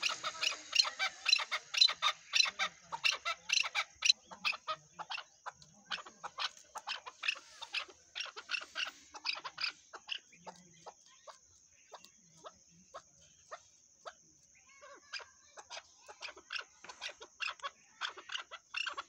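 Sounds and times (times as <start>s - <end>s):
partridge chuck calls: 0.0s - 19.0s.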